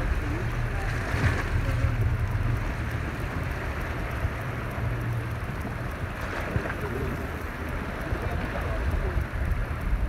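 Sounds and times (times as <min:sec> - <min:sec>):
motorboat engine rumble: 0:00.0 - 0:10.0
wind: 0:00.0 - 0:10.0.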